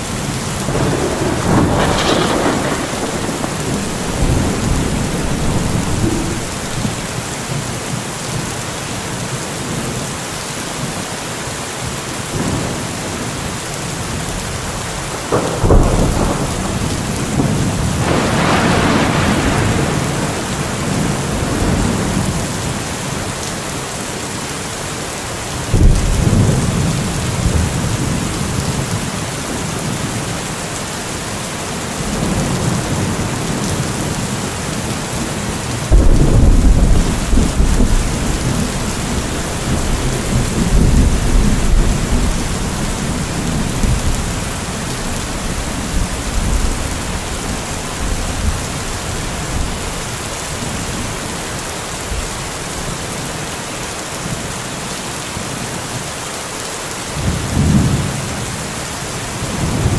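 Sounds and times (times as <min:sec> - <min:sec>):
thunderclaps and rumble: 0:00.0 - 0:08.6, 0:12.3 - 0:23.6, 0:25.5 - 0:53.2, 0:57.1 - 0:58.7, 0:59.3 - 0:59.9
heavy rain: 0:00.0 - 0:59.9.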